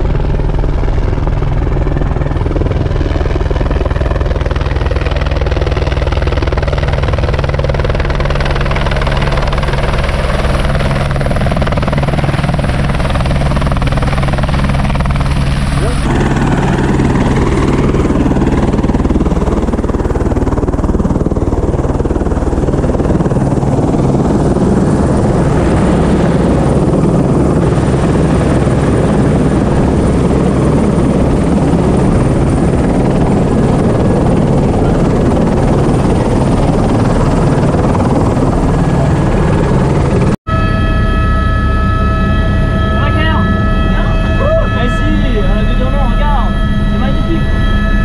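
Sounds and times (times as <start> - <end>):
helicopter engine and rotor: 0.0 - 48.0.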